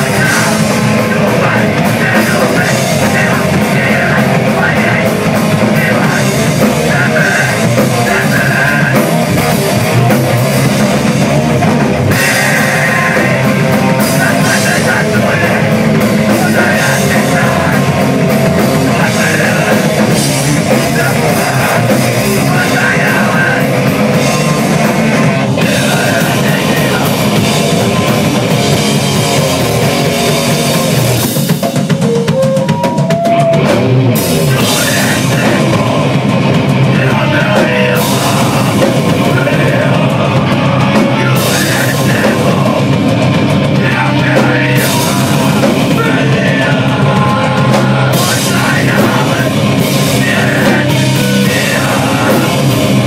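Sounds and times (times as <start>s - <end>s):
punk band playing live: 0.0s - 53.0s.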